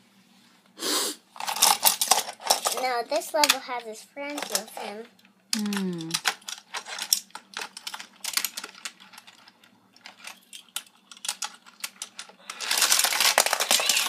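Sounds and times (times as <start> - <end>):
toy cars clicking and clattering: 1.4 - 14.0.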